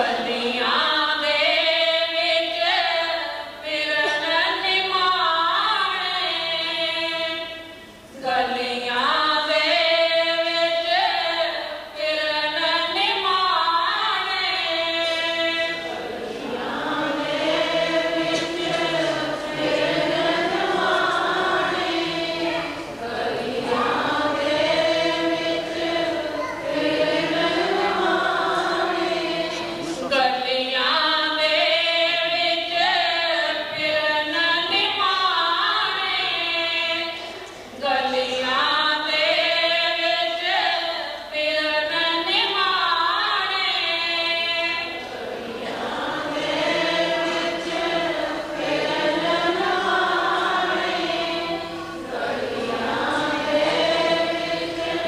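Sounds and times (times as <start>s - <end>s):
group singing devotional chant: 0.0s - 55.0s.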